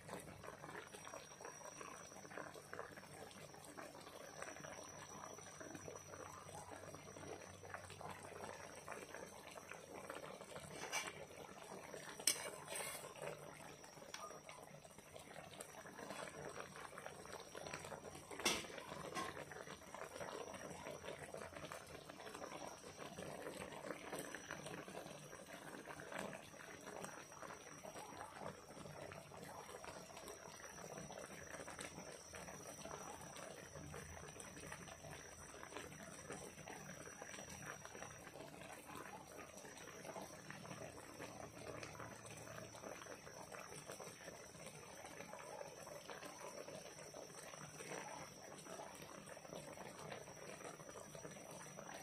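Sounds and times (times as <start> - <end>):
liquid bubbling in pan: 0.0 - 52.0.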